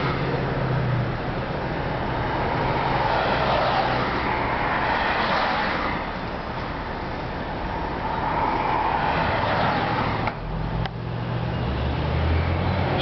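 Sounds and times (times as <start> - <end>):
road noise rushing: 0.0 - 13.0.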